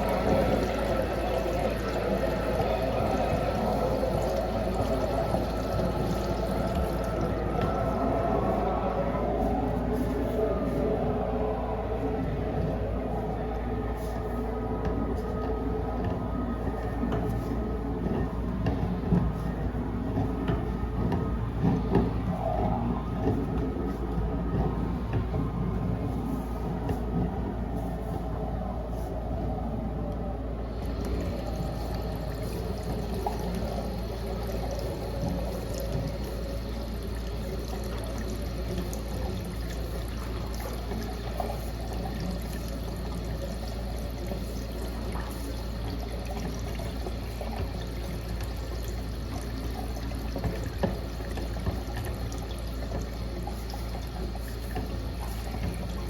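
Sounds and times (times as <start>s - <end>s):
water rushing through drain pipe: 0.0s - 56.0s.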